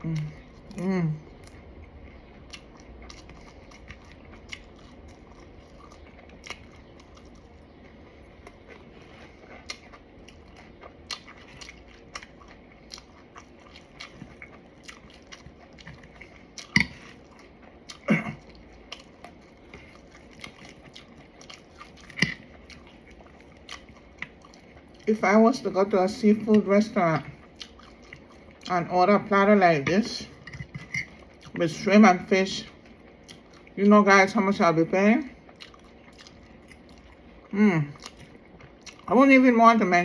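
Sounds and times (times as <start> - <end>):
person chewing crunchy food: 0.0 - 32.0, 32.6 - 33.8, 35.2 - 39.1.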